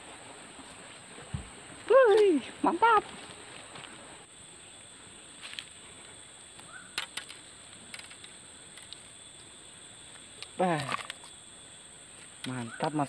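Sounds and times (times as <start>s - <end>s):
faint high-pitched hiss: 0.0s - 13.0s.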